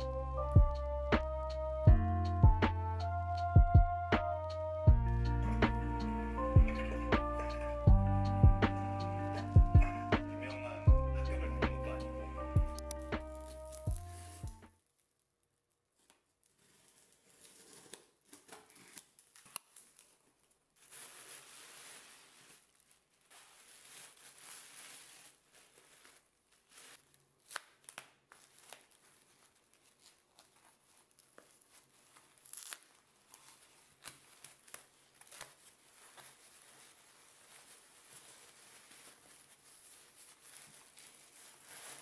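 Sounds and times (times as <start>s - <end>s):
rustling and crinkling: 5.0s - 42.0s.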